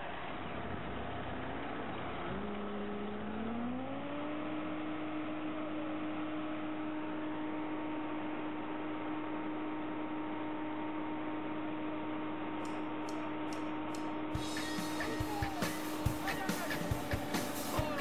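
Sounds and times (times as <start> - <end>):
diesel engine revving up: 0.0 - 18.0.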